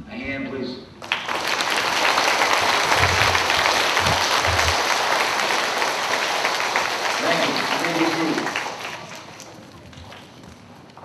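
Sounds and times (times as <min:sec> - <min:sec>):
audience applauding: 0:01.0 - 0:10.5.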